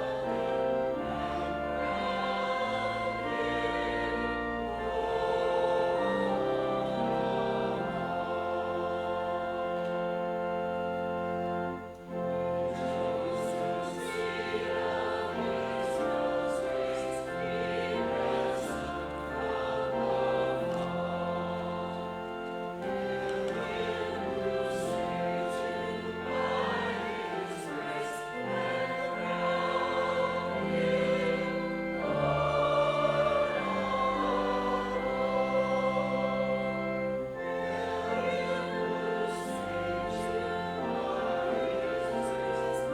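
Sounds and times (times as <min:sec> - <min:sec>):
choir singing over held chords: 0:00.0 - 0:42.9.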